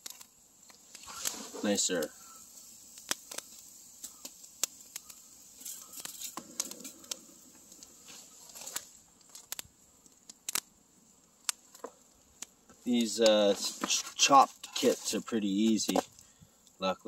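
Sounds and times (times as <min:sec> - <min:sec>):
campfire crackling and popping: 0:00.0 - 0:17.0
soft rustling noise: 0:00.1 - 0:04.3, 0:05.0 - 0:10.2, 0:11.2 - 0:16.4.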